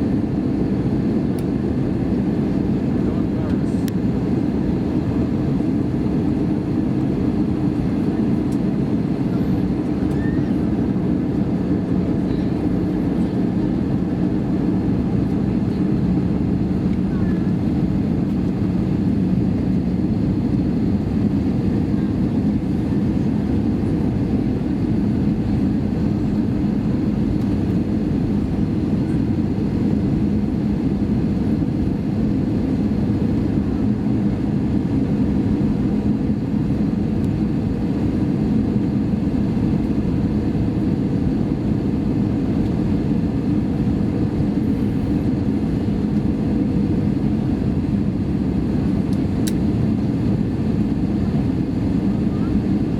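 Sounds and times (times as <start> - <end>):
airliner cabin engine and airflow rush: 0.0 - 52.9.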